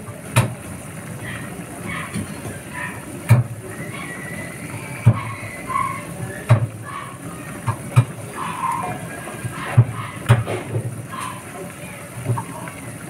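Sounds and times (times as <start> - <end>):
sauce boiling with hiss: 0.0 - 13.0.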